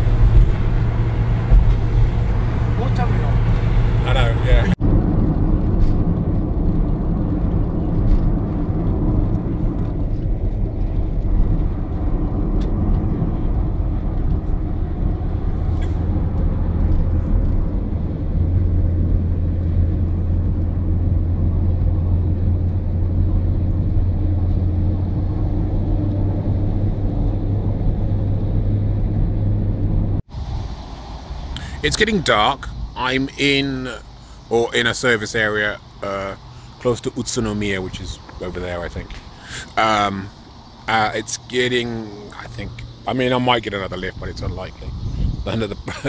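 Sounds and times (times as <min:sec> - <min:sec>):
vehicle engine and road noise: 0:00.0 - 0:46.0.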